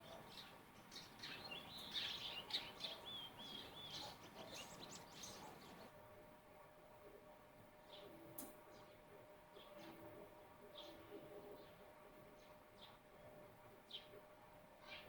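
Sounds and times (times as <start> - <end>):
sparrows chirping: 0.0 - 5.9, 7.8 - 14.2, 14.8 - 15.0.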